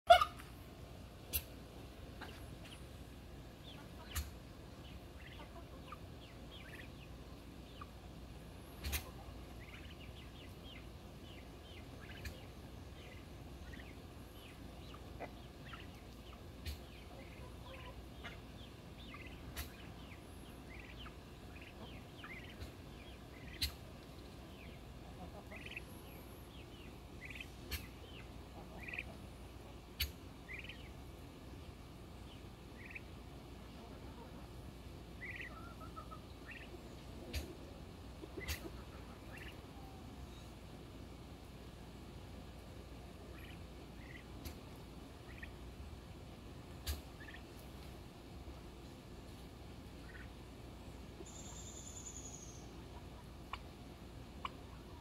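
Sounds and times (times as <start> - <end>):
background hiss: 0.1 - 55.0
turkey poults peeping: 0.1 - 55.0.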